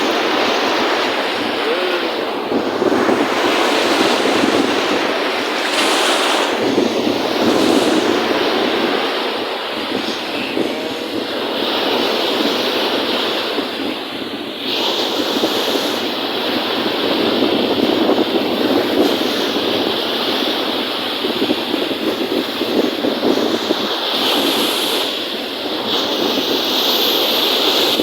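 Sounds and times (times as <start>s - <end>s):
lake waves washing and splashing: 0.0s - 28.0s.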